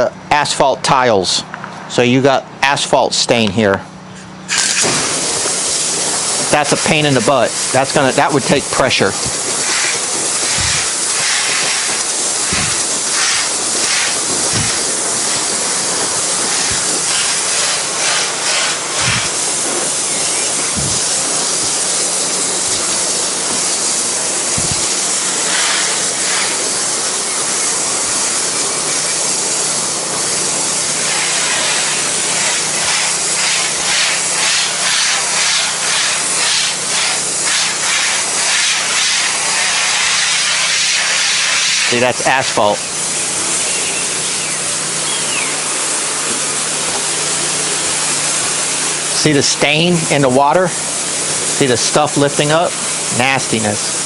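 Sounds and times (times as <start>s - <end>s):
pressure washer spray hissing: 4.2s - 54.0s.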